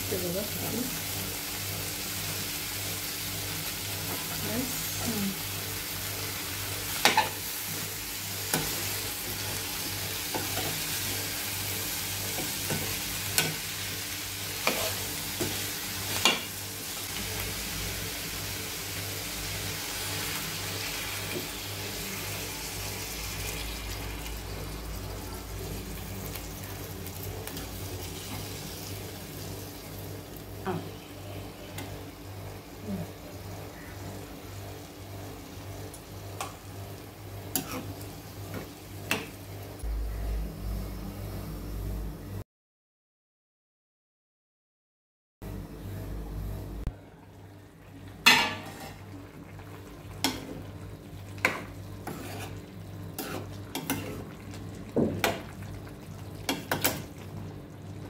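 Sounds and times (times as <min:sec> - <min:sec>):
vegetables sizzling in pan: 0:00.0 - 0:30.8, 0:31.7 - 0:39.8, 0:48.0 - 0:58.0.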